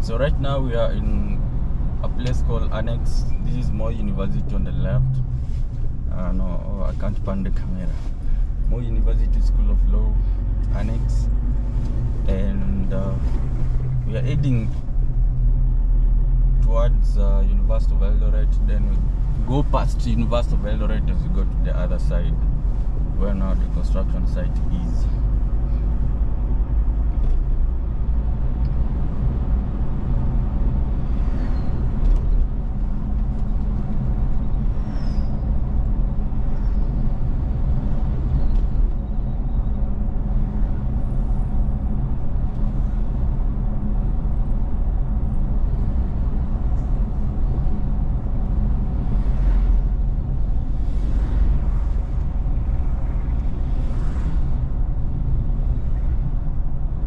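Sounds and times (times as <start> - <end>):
passing vehicles: 0.0 - 57.0
vehicle engine and tyres rumble: 0.0 - 57.0.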